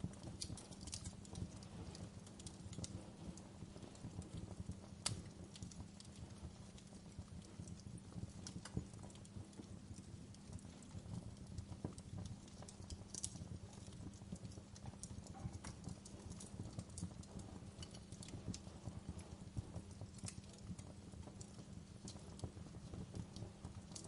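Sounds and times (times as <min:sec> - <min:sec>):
fire crackling: 0:00.0 - 0:24.0.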